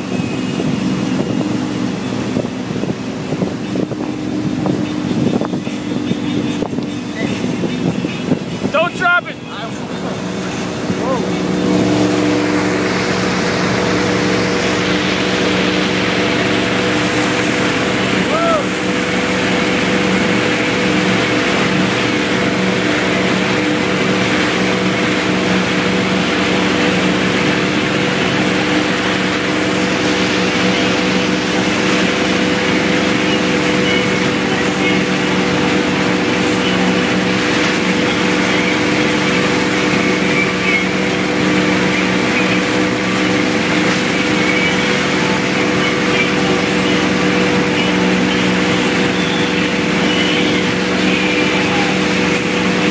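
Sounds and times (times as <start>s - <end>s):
churning wake water: 0.0s - 52.9s
motorboat engine droning: 0.0s - 52.9s.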